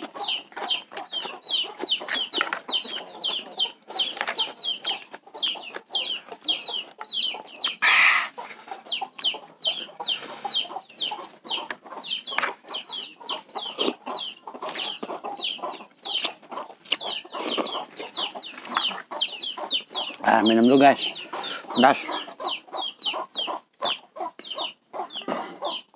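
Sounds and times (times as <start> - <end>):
chickens chirping and clucking: 0.0 - 25.9
eating noises: 0.0 - 25.9.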